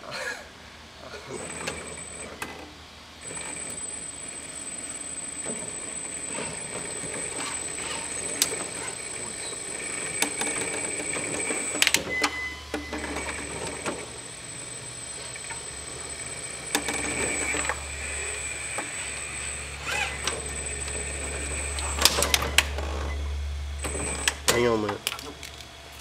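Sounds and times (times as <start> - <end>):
electric motor whining: 3.2 - 26.0.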